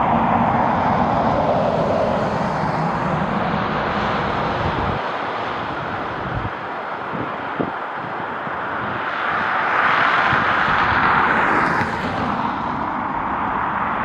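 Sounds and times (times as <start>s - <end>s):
jet airliner engine passing: 0.0s - 14.0s.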